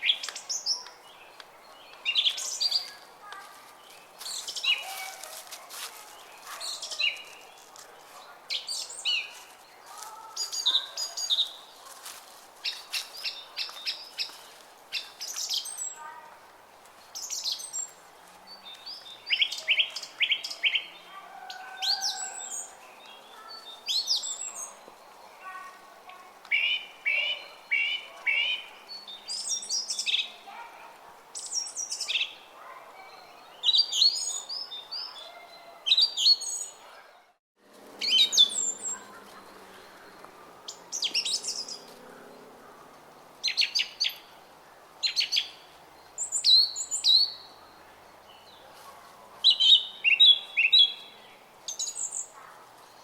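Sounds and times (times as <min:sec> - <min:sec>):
songbirds singing: 0:00.0 - 0:11.9, 0:12.6 - 0:16.3, 0:17.0 - 0:37.0, 0:38.0 - 0:53.0.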